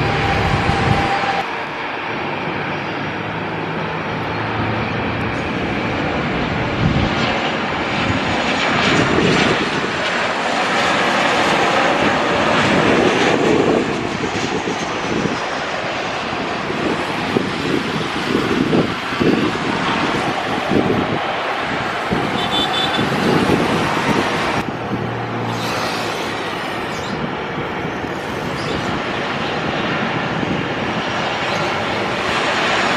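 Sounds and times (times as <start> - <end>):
airliner engines running: 0.0 - 32.9.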